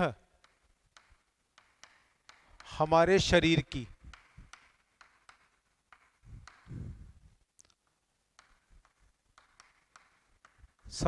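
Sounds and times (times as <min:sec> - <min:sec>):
chalk tapping on chalkboard: 0:00.4 - 0:03.0, 0:03.7 - 0:06.8, 0:07.8 - 0:11.0.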